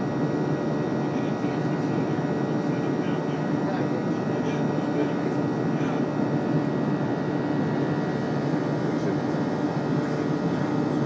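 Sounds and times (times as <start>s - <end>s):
airliner cabin engine rush: 0.0s - 11.0s
faint steady whine: 0.0s - 11.0s.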